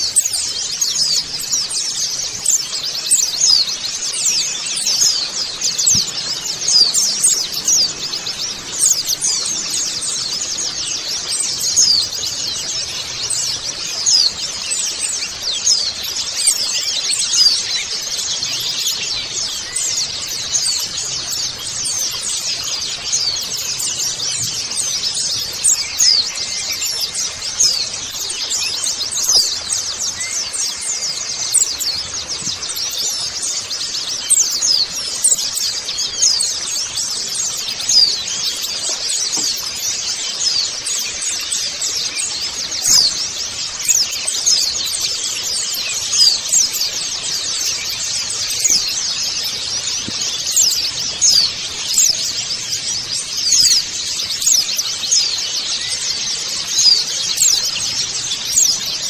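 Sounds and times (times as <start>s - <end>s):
flock of birds chirping: 0.0s - 59.0s.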